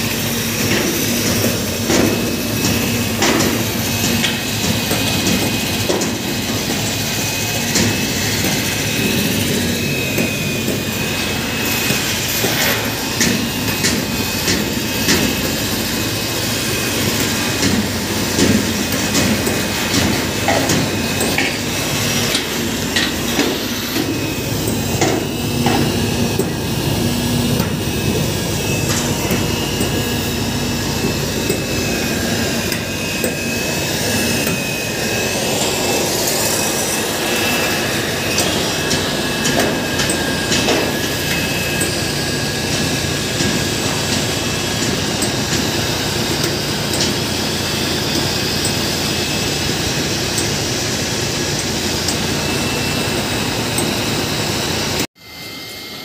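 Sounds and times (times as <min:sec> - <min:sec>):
seaming machine motor whine: 0:00.0 - 0:56.0.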